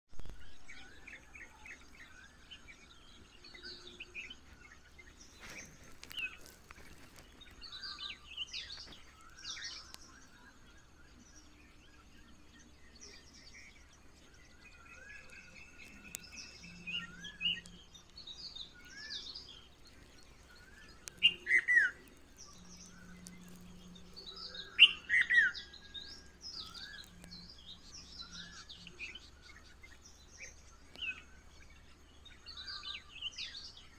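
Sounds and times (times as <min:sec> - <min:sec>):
songbirds chirping and whistling: 0:00.2 - 0:33.9.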